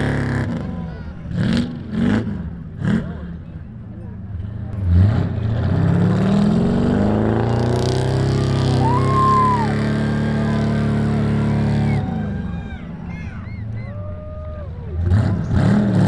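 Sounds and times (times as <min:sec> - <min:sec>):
truck engine revving: 0:00.0 - 0:13.8, 0:14.6 - 0:16.0.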